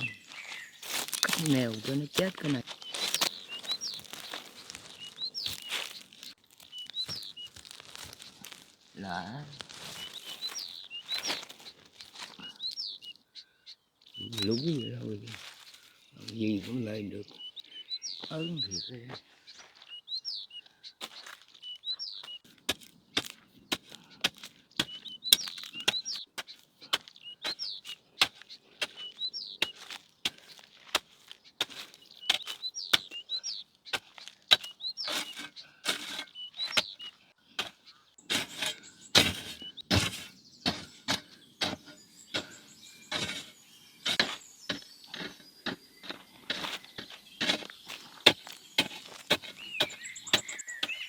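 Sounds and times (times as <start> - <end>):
small bird chirping: 0.0 - 51.0.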